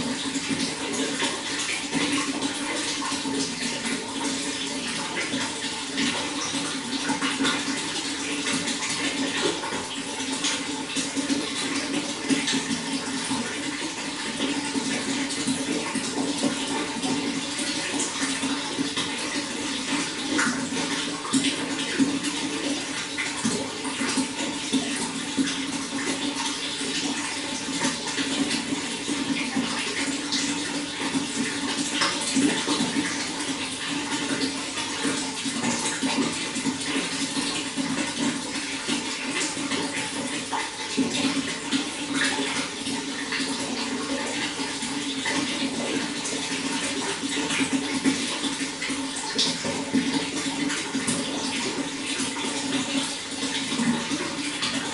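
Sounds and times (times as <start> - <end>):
running water rushing: 0.0 - 54.9
water splashes and drips: 0.0 - 54.9.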